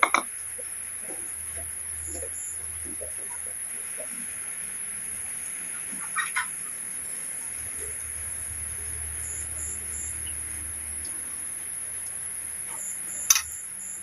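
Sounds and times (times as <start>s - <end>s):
broth simmering in a wok: 0.1s - 14.0s.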